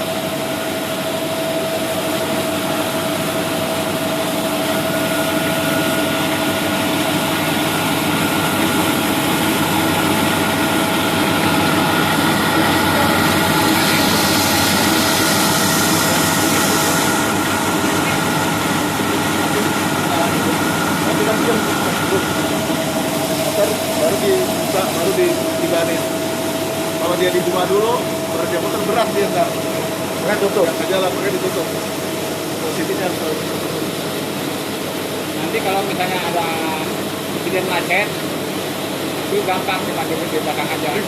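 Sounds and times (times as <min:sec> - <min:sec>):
milling machine humming and whining: 0:00.0 - 0:41.0.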